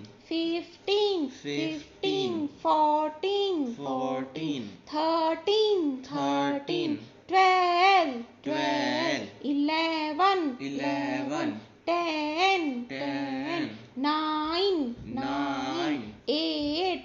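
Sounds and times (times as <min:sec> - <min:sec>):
child-like voice chanting: 0:00.3 - 0:17.0.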